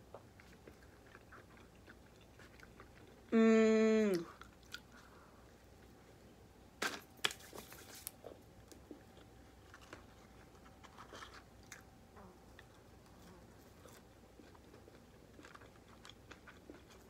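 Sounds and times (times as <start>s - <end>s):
person chewing food: 0.0s - 3.3s, 4.1s - 6.1s, 8.2s - 17.0s.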